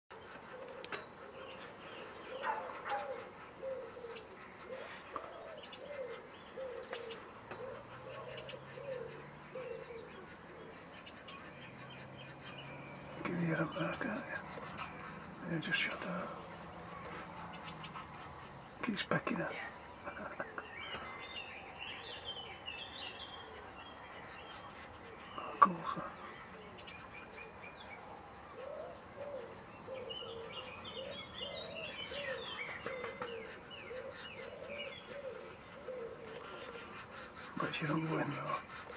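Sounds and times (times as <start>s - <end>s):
bird calling low notes: 0.5s - 38.9s.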